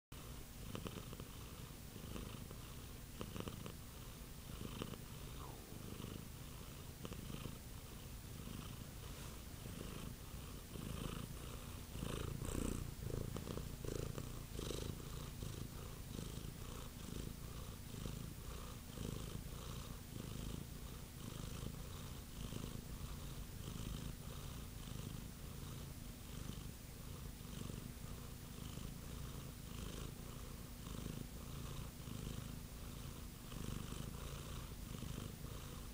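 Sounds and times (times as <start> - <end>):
cat purring: 0.2 - 35.9.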